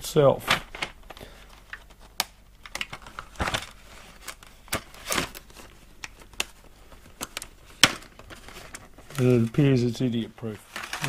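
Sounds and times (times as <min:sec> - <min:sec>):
plastic packaging crinkling: 0:00.4 - 0:11.0.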